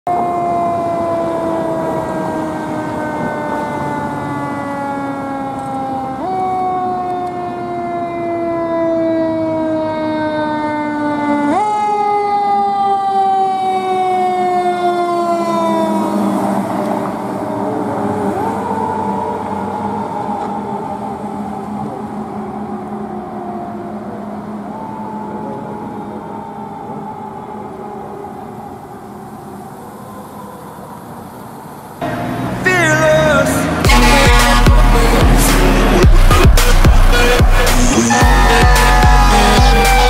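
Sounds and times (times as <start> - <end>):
fire engine siren wailing: 0.0 - 40.0.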